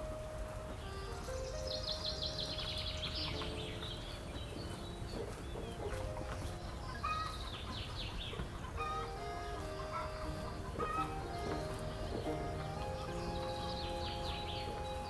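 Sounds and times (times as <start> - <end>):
bird chirping trill: 0.0 - 15.0
soft background music: 0.0 - 15.0.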